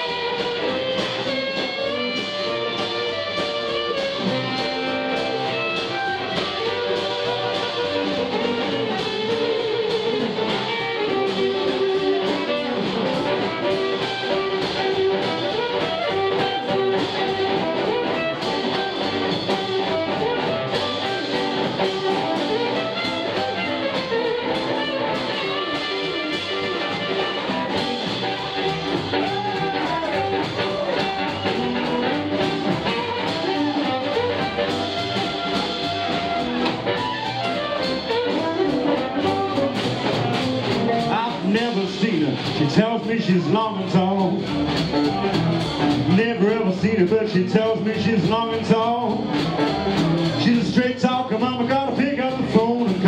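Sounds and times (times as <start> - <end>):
electric guitar: 0.0 - 53.0
live blues band playing: 0.0 - 53.0.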